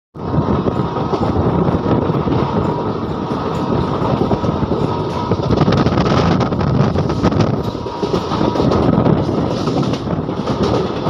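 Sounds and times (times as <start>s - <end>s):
train wheels rumbling on rails: 0.2s - 11.0s
train wheel clicks: 0.3s - 11.0s.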